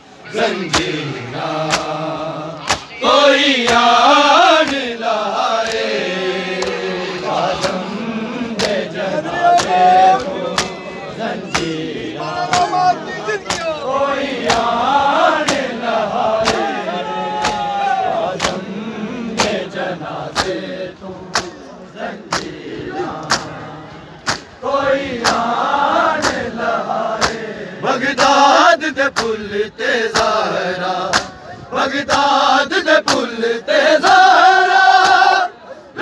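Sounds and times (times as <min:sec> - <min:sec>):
male voices chanting: 0:00.0 - 0:36.0
men slapping chests in unison: 0:00.6 - 0:33.4, 0:34.0 - 0:35.4.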